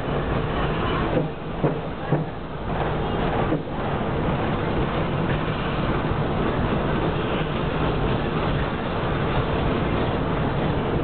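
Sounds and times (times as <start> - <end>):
tram wheels on rails: 0.0 - 11.0.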